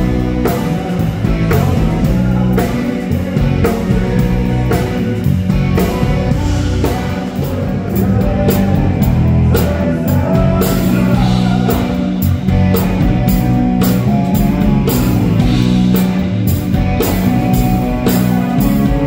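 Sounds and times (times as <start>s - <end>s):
drum kit beat: 0.0s - 19.0s
electric guitar: 0.0s - 19.0s.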